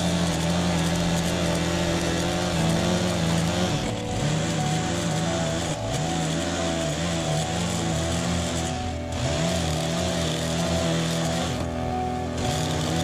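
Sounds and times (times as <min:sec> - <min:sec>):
blade cutting kerb edge: 0:00.0 - 0:13.0
lawn edger engine running: 0:00.0 - 0:13.0.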